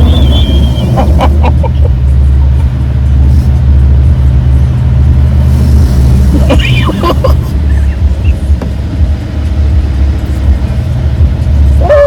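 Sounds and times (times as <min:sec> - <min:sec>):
car wash rumbling: 0:00.0 - 0:12.0.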